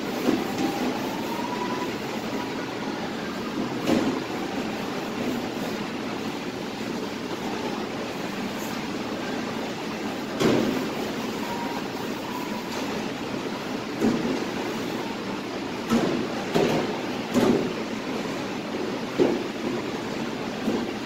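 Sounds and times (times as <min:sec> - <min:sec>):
kitchen ventilation rushing hum: 0:00.0 - 0:21.0.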